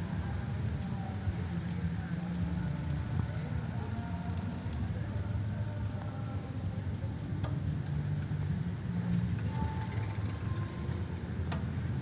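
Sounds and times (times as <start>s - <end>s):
bicycle tyre noise: 0.0s - 7.4s, 8.9s - 11.5s.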